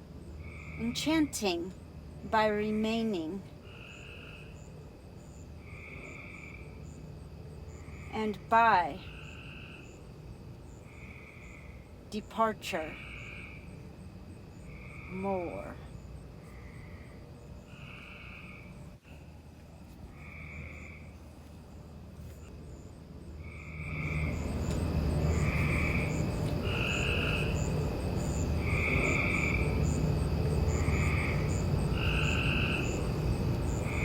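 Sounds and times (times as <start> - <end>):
frog-like calls: 0.4 - 1.7, 2.3 - 19.3, 20.1 - 34.0.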